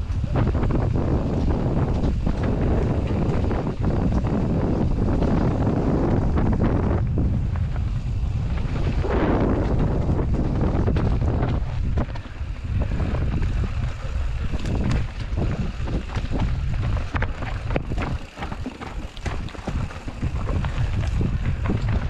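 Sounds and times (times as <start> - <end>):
bike rattling clicks and knocks: 0.0 - 22.0
wind rumble on microphone: 0.0 - 22.0.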